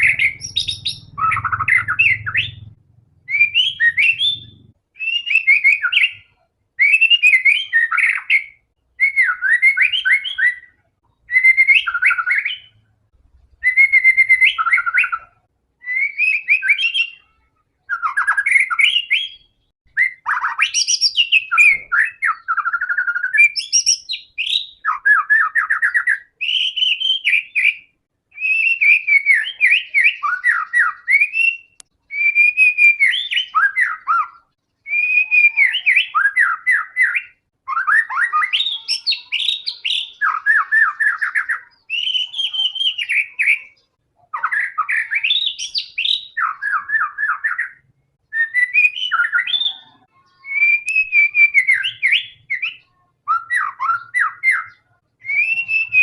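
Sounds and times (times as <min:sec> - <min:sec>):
bird whistles and trills: 0:00.0 - 0:12.8, 0:13.5 - 0:56.0.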